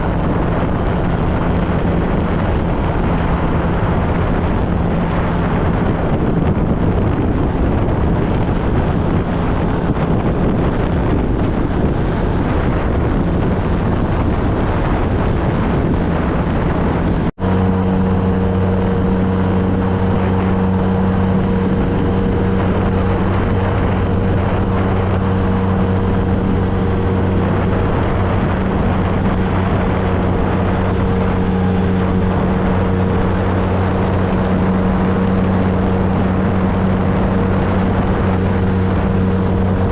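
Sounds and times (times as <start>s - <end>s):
motorcycle engine running steadily: 0.0s - 39.9s
wind rush: 0.0s - 39.9s.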